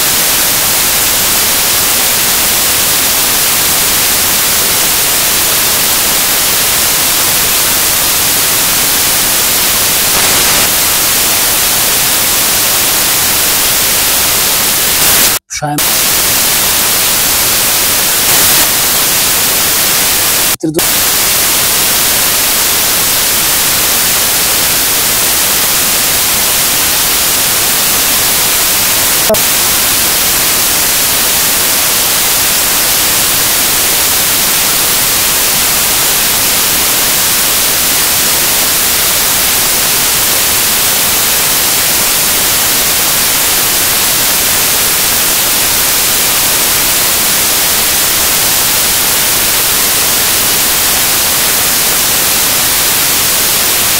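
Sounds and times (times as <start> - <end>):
static hiss: 0.0 - 53.9.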